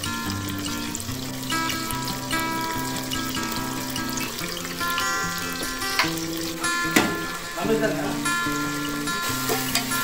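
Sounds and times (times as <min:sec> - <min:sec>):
background music with held notes: 0:00.0 - 0:10.0
vegetables sizzling in hot oil: 0:00.0 - 0:10.0.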